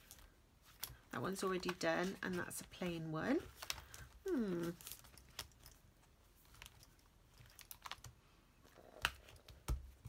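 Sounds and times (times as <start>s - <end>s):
hands handling leather notebook: 0.0s - 10.0s.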